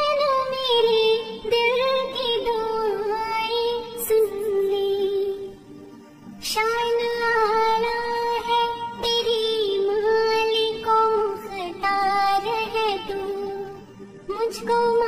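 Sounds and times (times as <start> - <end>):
girl singing: 0.0 - 5.5, 6.4 - 15.0.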